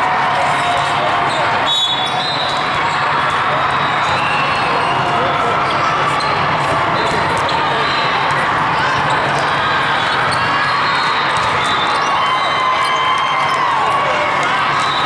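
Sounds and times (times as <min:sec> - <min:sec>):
spectator chatter: 0:00.0 - 0:15.0.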